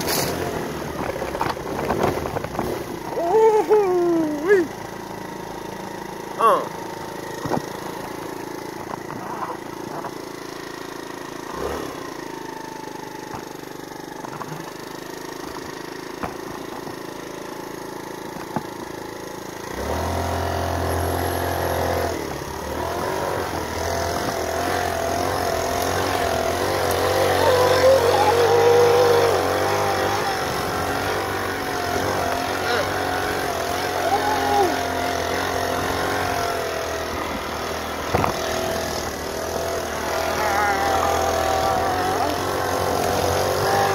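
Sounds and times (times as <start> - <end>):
scooter engine running: 0.0 - 43.9.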